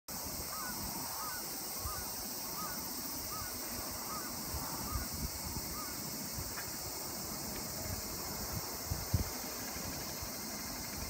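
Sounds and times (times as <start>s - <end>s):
steady high hiss: 0.1s - 11.0s.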